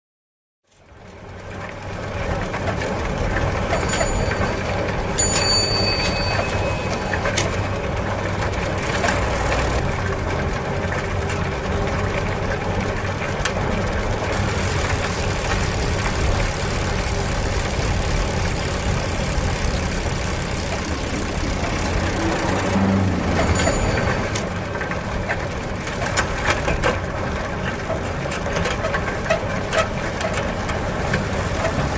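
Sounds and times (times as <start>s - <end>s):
bicycle tyres rolling: 0.7s - 31.9s
bicycle clicks: 0.8s - 31.9s.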